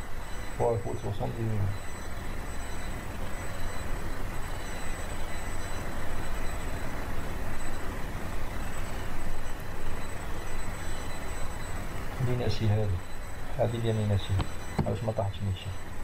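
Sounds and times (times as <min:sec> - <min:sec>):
faint high-pitched whines: 0:00.0 - 0:16.0
low hum: 0:00.0 - 0:16.0.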